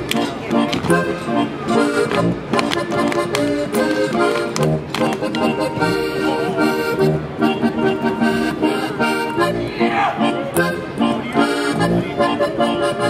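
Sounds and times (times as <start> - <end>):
accordion folk dance music: 0.0 - 13.0.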